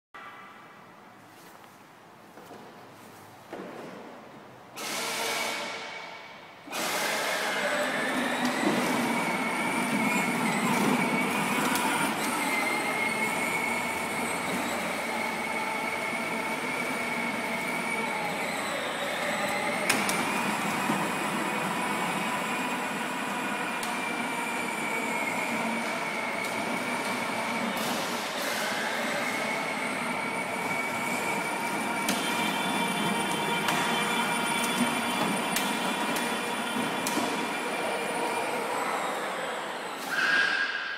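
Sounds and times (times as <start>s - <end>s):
toy electric motor whining: 6.7s - 27.8s, 28.4s - 40.6s.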